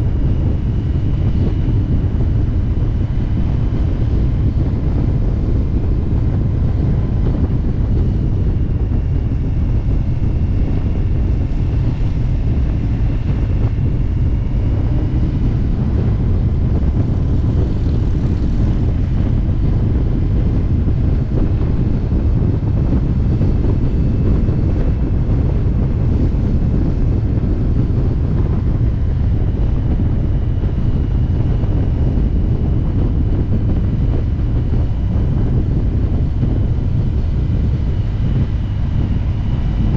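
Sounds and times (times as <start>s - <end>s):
motorcycle engine rumble: 0.0s - 39.9s
wind rush over microphone: 0.0s - 39.9s.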